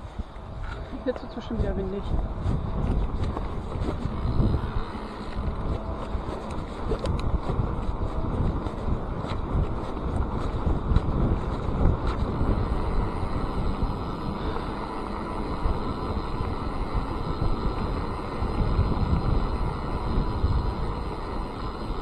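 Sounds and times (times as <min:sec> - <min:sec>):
bike tyres rolling on gravel: 0:00.0 - 0:22.0
wind buffeting microphone: 0:00.0 - 0:22.0
bike rattling clicks: 0:02.0 - 0:22.0.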